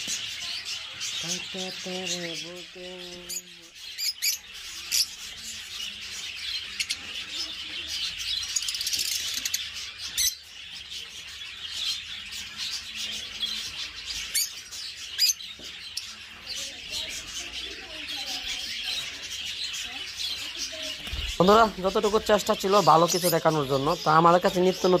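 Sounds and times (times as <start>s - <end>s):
caged birds chirping and chattering: 0.0s - 25.0s.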